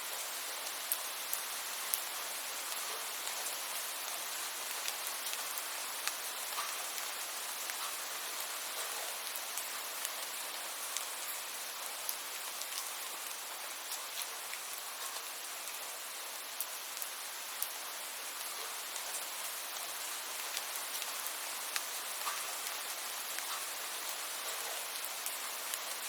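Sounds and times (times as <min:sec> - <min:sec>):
steady rain hiss: 0:00.0 - 0:26.0
raindrops ticking on surface: 0:00.1 - 0:26.0.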